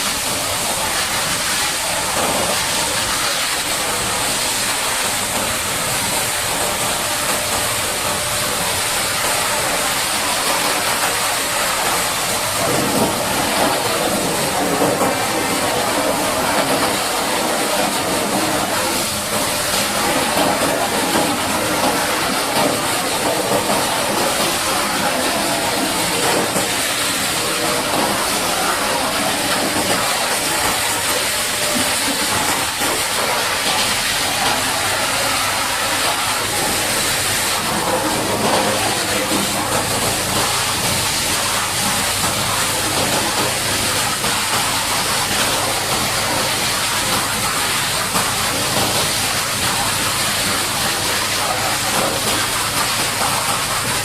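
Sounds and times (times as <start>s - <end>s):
high-pressure water jet spraying: 0.0s - 54.0s.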